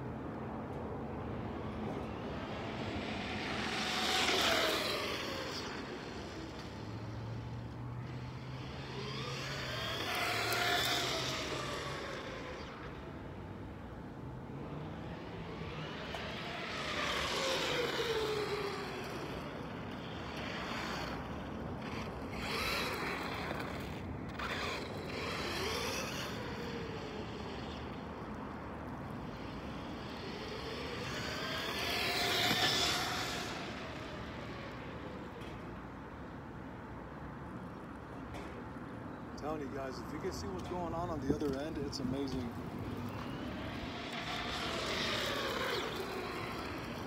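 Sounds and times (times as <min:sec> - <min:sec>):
rc truck motor whine: 0:00.0 - 0:36.6, 0:39.4 - 0:47.0.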